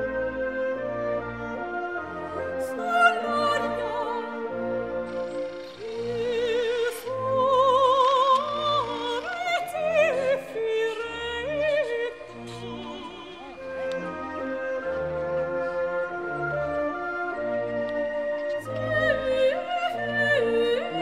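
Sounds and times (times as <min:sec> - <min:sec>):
operatic singing with vibrato: 0:00.0 - 0:21.0
orchestral chords: 0:00.0 - 0:21.0.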